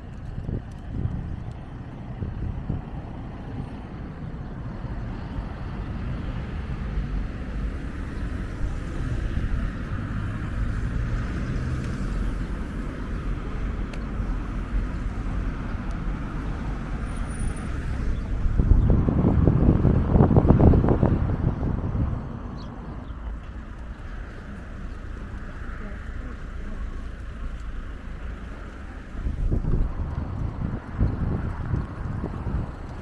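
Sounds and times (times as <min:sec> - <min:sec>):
cars passing: 0:00.0 - 0:33.0
wind on microphone: 0:00.0 - 0:33.0.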